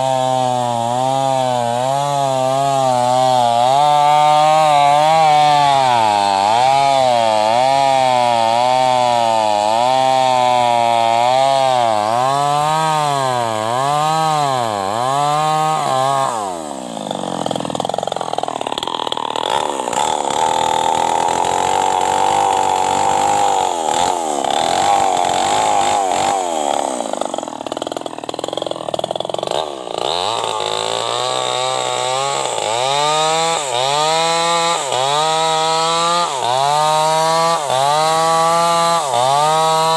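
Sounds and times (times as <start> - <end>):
chainsaw cutting hardwood: 0.0 - 39.9
chainsaw revving: 0.0 - 39.9.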